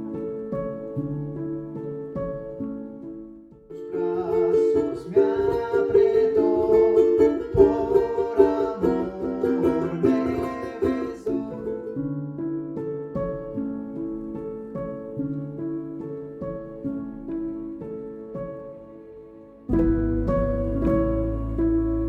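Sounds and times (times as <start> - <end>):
plucked string instrument music: 0.0 - 22.0.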